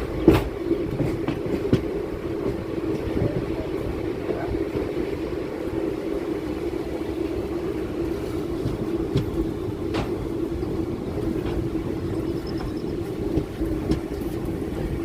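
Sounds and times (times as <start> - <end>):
electric train rumbling on track: 0.0 - 15.0.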